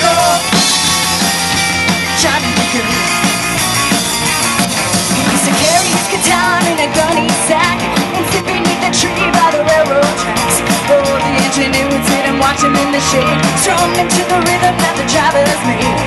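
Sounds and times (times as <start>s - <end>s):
drum kit: 0.0s - 16.0s
electric bass: 0.0s - 16.0s
electric guitar: 0.0s - 16.0s.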